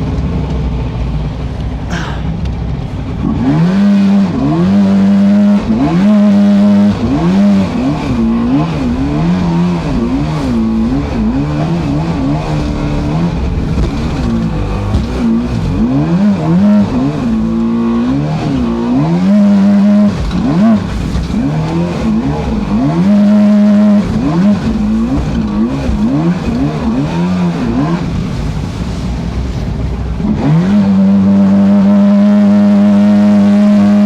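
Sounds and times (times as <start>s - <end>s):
boat motor revving: 0.0s - 34.0s.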